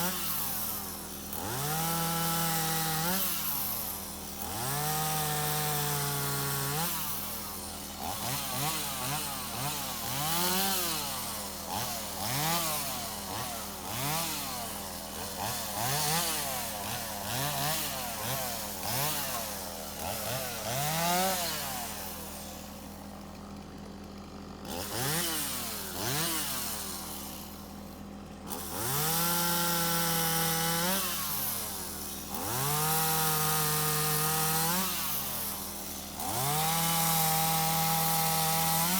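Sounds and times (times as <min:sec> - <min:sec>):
chainsaw revving and cutting: 0:00.0 - 0:38.9.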